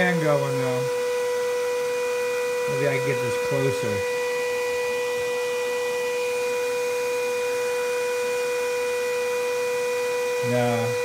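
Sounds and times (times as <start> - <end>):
electrical whine with hiss: 0.0 - 11.0.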